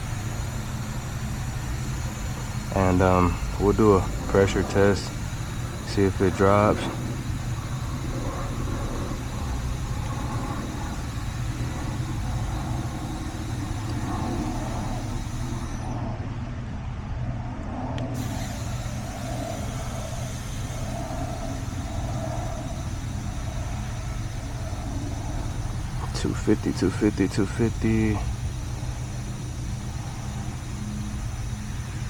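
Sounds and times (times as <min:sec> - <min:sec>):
gas hissing from regulator: 0:00.0 - 0:16.1, 0:18.1 - 0:32.0.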